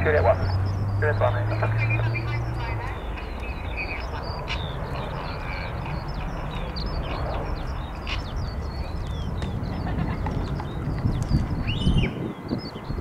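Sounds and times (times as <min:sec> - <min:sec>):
birds chirping: 0:00.0 - 0:13.0
distant jet engine rumble: 0:00.0 - 0:13.0.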